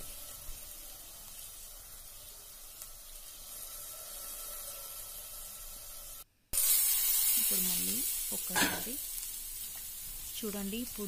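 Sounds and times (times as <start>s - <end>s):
faint steady sizzle: 0.0s - 11.0s.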